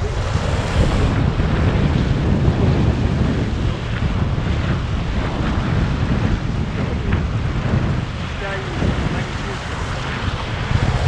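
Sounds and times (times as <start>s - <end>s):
sea water rushing along hull: 0.0s - 11.0s
wind buffeting microphone: 0.0s - 11.0s.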